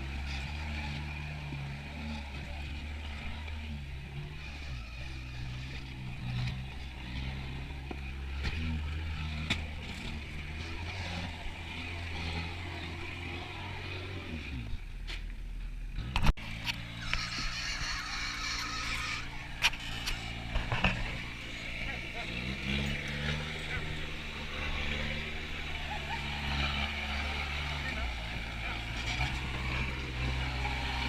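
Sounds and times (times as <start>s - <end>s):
diesel engine running: 0.0s - 31.0s
engine with high whine: 0.0s - 31.0s.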